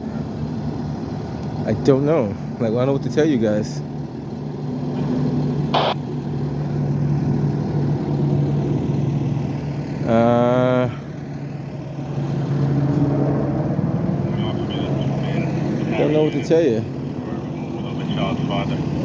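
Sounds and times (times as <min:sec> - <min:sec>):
idling street traffic: 0:00.0 - 0:19.0.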